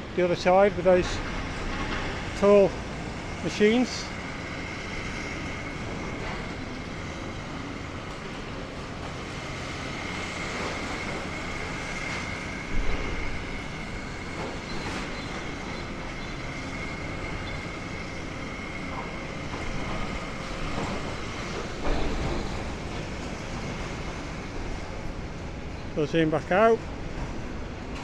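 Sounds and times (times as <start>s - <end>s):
excavator machine noise: 0.0s - 28.0s.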